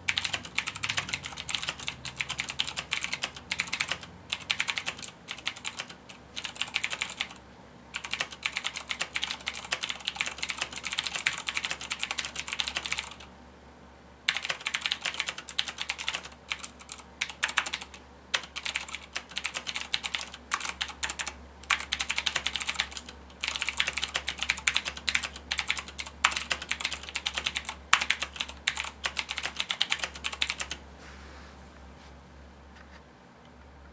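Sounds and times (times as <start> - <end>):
clicky mechanical keyboard typing: 0.1 - 7.4, 8.0 - 13.3, 14.3 - 30.8.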